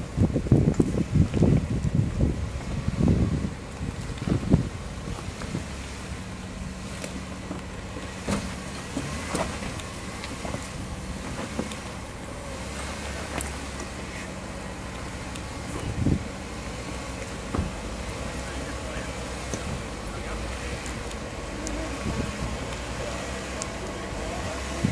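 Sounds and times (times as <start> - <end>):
car engine at low revs: 0.0 - 24.9.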